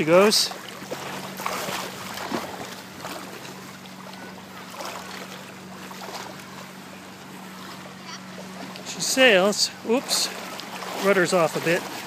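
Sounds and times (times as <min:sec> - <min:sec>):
steady low hum: 0:00.0 - 0:12.0
water lapping and splashing: 0:00.0 - 0:12.0.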